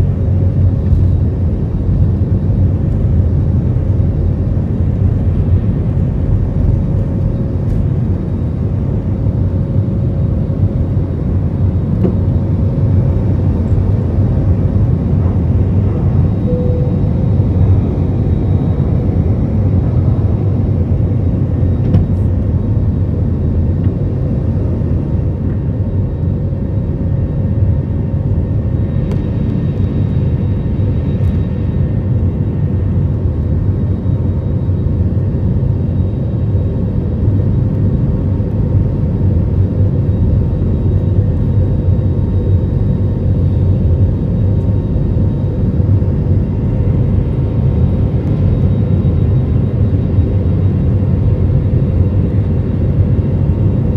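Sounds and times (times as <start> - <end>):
jet engines deep rushing: 0.0 - 53.9.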